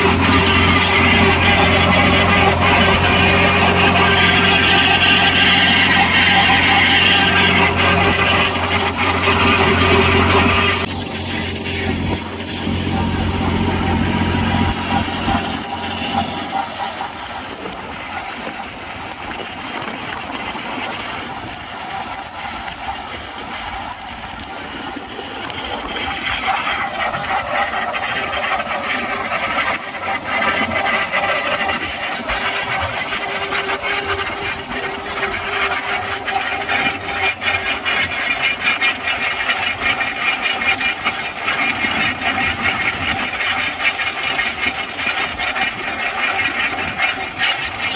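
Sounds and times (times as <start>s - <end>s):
tractor engine under load: 0.0s - 47.9s.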